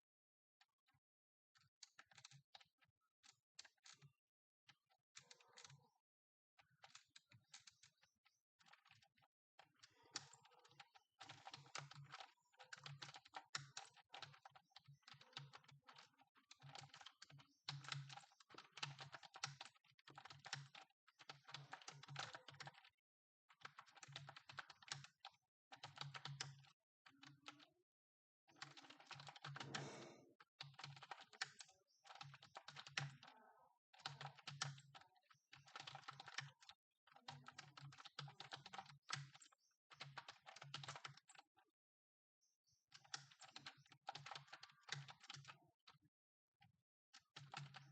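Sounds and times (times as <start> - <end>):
fast typing on keyboard: 1.8 - 4.1, 4.7 - 5.9, 6.6 - 27.8, 28.5 - 41.5, 42.9 - 46.0, 47.2 - 47.9.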